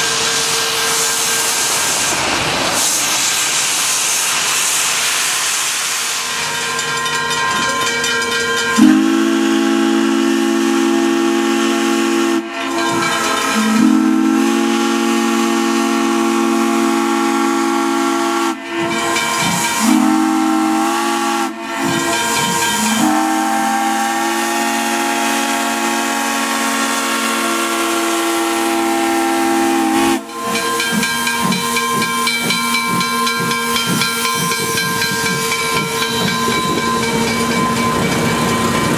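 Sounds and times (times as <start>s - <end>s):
steam hissing: 0.0s - 38.9s
steam locomotive whistle blasts: 6.1s - 38.9s.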